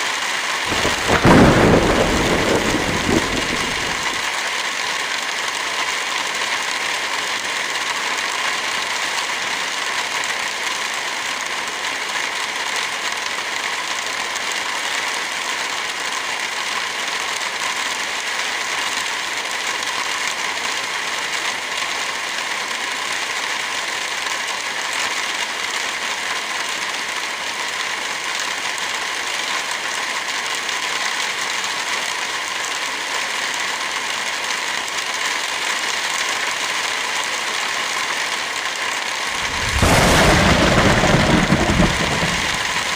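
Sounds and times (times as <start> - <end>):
heavy rain hiss: 0.1 - 26.3, 33.6 - 42.9.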